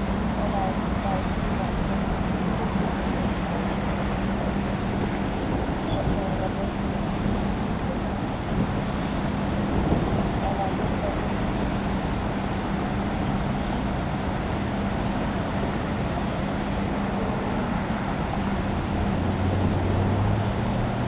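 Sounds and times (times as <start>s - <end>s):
road traffic drone: 0.0s - 21.0s.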